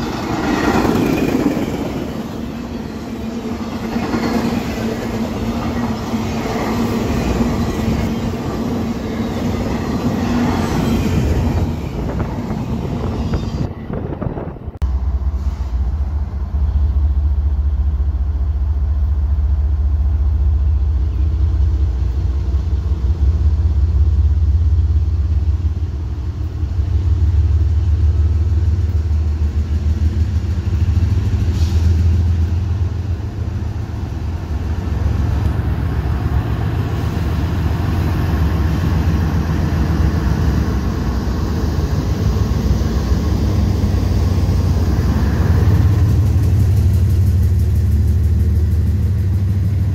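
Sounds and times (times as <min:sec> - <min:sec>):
diesel locomotive engine droning: 0:00.0 - 0:49.9.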